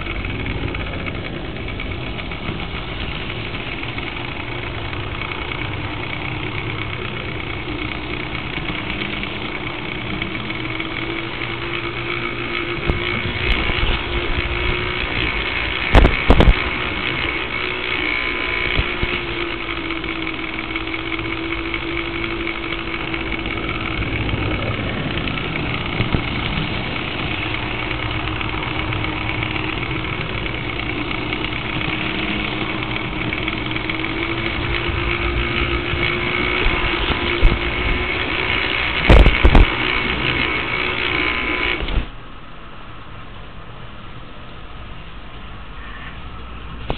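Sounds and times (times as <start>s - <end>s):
model train motor hum: 0.0s - 42.2s.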